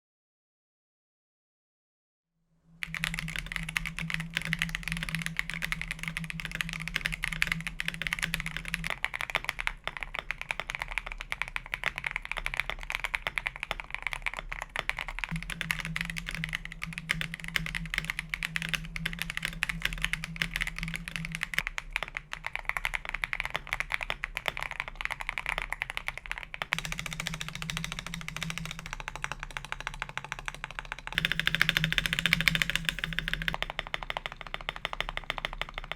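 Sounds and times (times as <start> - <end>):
fast typing on mechanical keyboard: 2.8 - 35.9.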